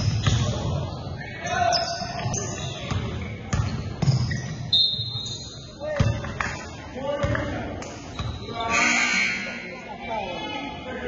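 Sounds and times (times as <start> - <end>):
players' voices: 0.1 - 11.0.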